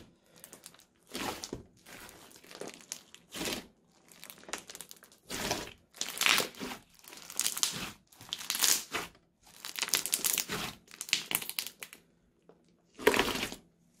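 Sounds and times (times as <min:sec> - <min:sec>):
slime crackling and popping: 0:00.3 - 0:12.0.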